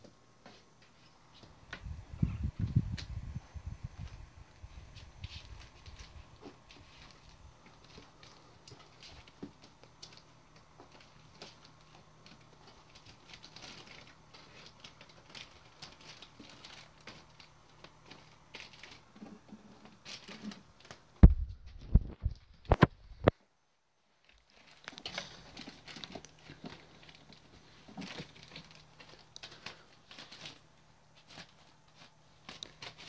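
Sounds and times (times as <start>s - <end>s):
kittens' paws scratching: 0.4s - 23.3s, 24.2s - 33.0s.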